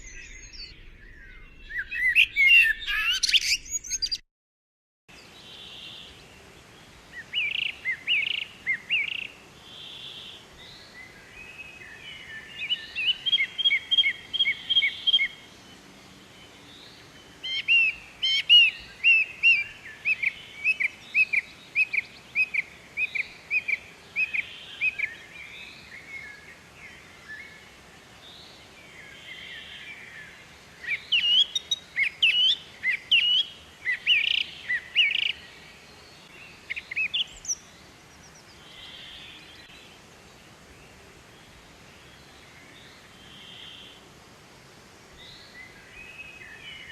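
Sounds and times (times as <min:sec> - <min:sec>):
small birds chirping: 0:00.0 - 0:04.2, 0:05.1 - 0:44.1.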